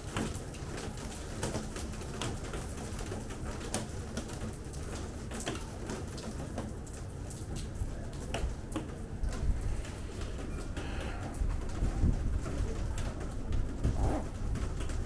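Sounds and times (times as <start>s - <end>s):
rain drips tapping: 0.0s - 15.0s.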